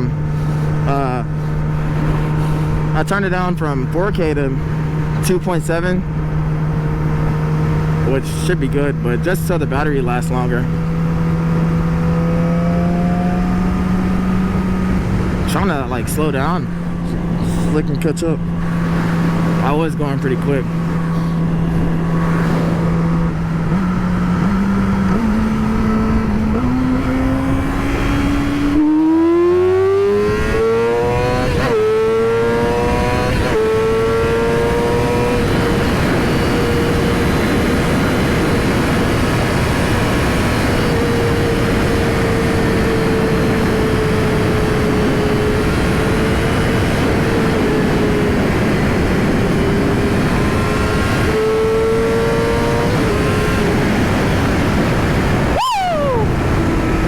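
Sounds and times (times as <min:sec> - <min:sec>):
wind rushing over microphone: 0:00.0 - 0:05.3, 0:09.6 - 0:57.0
motorcycle engine accelerating: 0:00.0 - 0:57.0.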